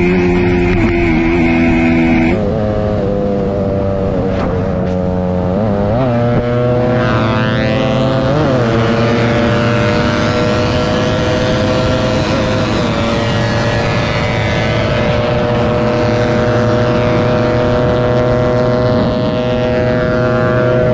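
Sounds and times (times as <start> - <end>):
motorcycle engine at high revs: 0.0 - 20.9
wind and road rush: 0.0 - 20.9.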